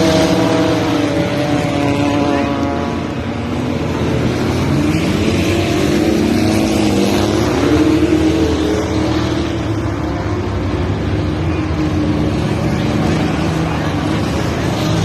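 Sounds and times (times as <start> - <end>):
race car engine revving: 0.0 - 15.0
road and wind noise: 0.0 - 15.0.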